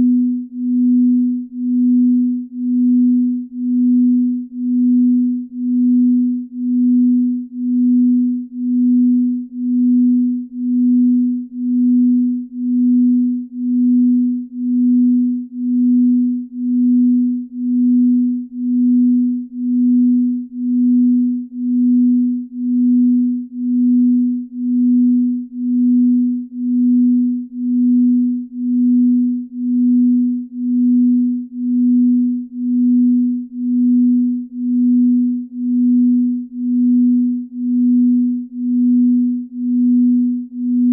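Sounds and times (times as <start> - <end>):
steady low pulsing tone: 0.0 - 40.9.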